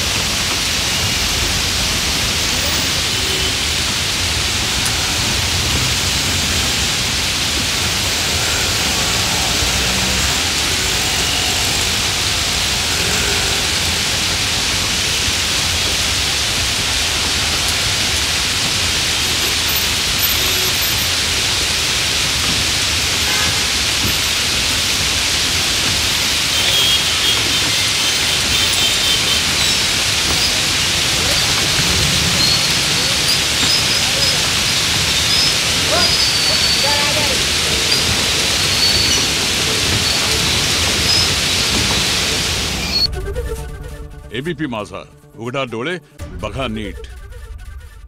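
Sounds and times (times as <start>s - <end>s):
heavy rain hiss: 0.0s - 43.1s
low traffic rumble: 0.0s - 43.4s.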